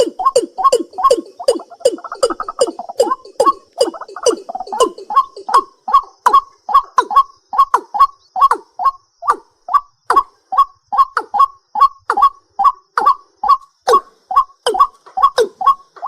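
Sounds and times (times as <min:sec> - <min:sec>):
night bird calling short notes: 0:00.0 - 0:16.0.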